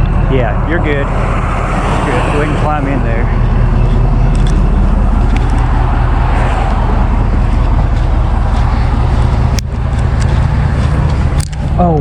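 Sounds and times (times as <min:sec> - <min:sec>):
engine running: 0:00.0 - 0:12.0
traffic passing: 0:00.0 - 0:12.0.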